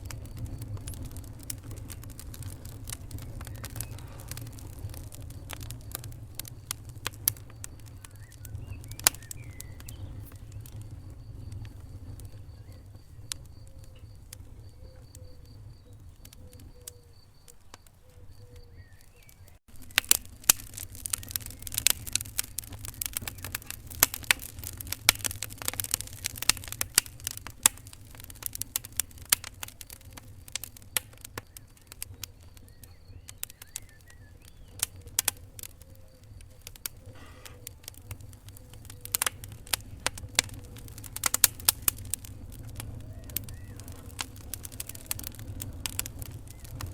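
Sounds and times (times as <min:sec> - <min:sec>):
fire crackles and pops: 0:00.0 - 0:46.9
low rumble of flame: 0:00.0 - 0:46.9.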